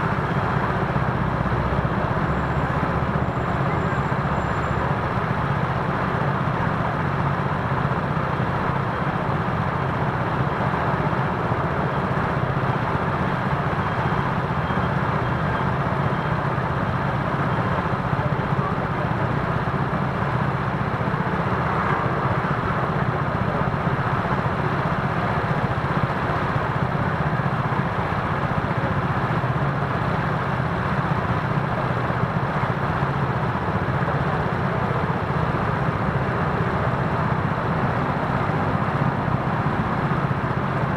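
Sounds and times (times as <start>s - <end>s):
car and truck engines: 0.0s - 40.9s
road noise from moving scooter: 0.0s - 40.9s.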